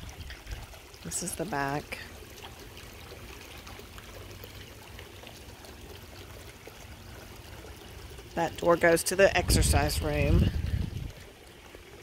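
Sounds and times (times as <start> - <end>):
fountain water splashing: 0.0 - 12.0
low steady rumble: 0.0 - 12.0.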